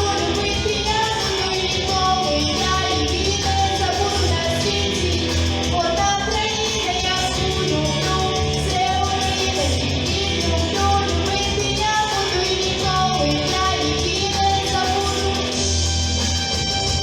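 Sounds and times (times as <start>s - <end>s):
person singing: 0.0s - 15.8s
guitar: 0.0s - 17.0s
steady bass: 0.0s - 17.0s.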